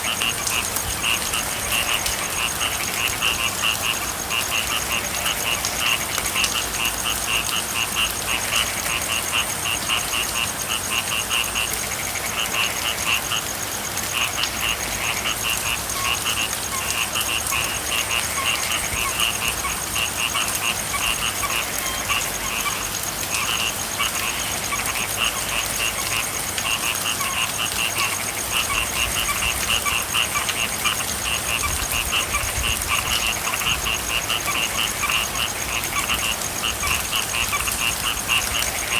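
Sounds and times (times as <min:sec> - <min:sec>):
frogs trilling: 0:00.0 - 0:38.9.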